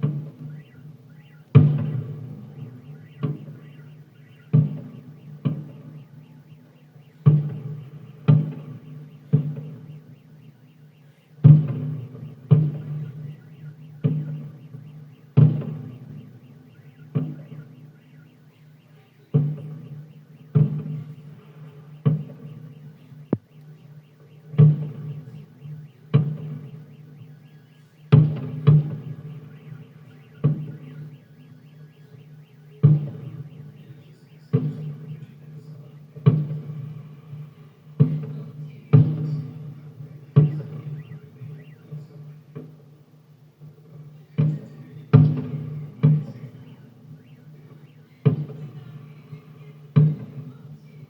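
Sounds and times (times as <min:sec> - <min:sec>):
fireworks bursting with echo: 0:00.0 - 0:42.3.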